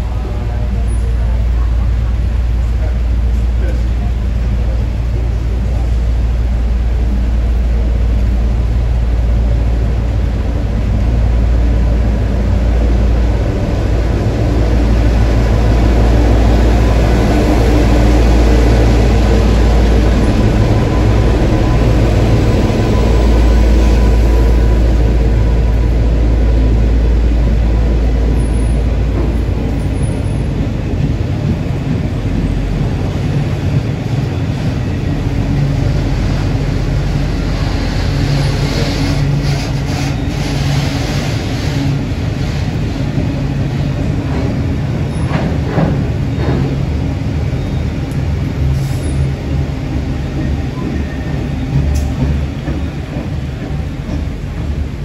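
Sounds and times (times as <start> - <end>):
freight wagons rumbling on rails: 0.0 - 55.0.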